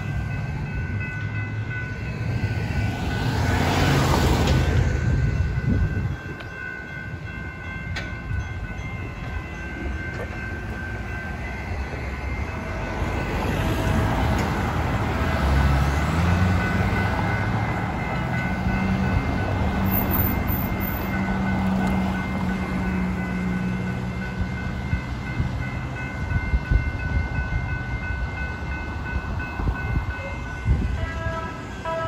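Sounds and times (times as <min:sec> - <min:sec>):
crossing warning bells: 0:00.0 - 0:32.0
road traffic passing: 0:00.0 - 0:32.0.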